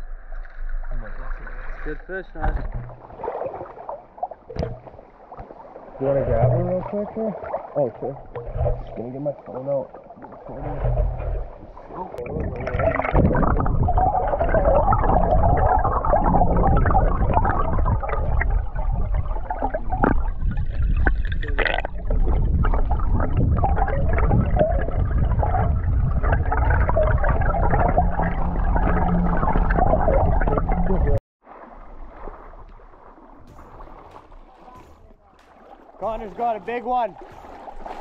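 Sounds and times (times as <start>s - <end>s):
river water gurgling and rushing: 0.0s - 38.0s.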